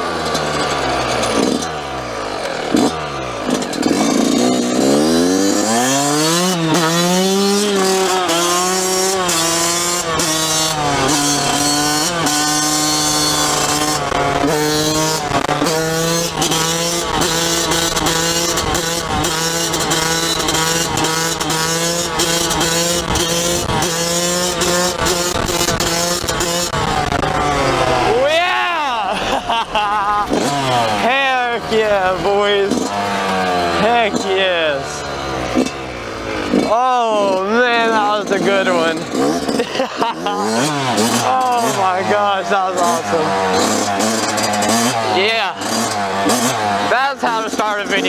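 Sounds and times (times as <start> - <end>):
dirt bike engine accelerating: 0.0 - 48.0.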